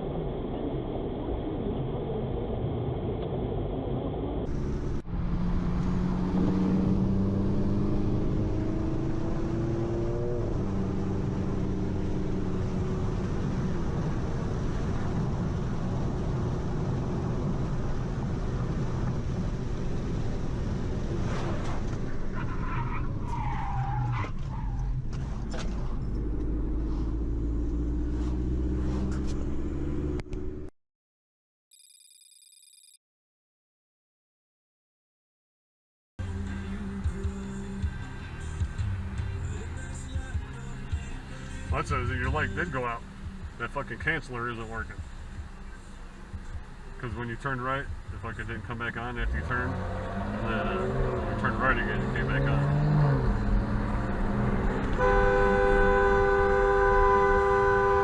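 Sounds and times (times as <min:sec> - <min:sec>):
road noise inside car: 0:00.0 - 0:30.7, 0:36.2 - 0:58.0
car engine accelerating: 0:02.6 - 0:30.7, 0:36.2 - 0:58.0.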